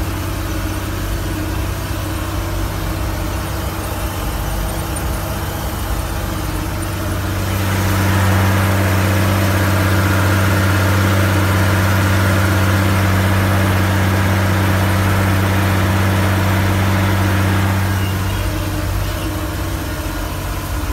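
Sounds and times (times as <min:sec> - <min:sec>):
tractor engine hum: 0:00.0 - 0:20.9.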